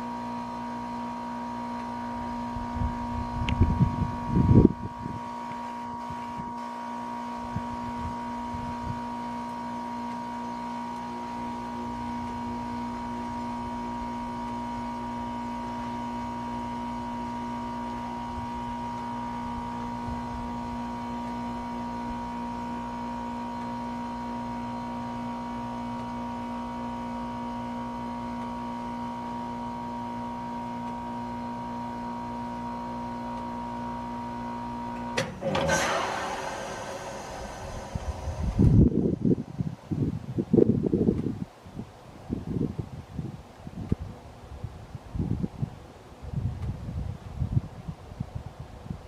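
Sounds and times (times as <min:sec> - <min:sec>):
rush of refrigerant: 0:00.0 - 0:41.4
heat pump unit humming: 0:00.0 - 0:49.0.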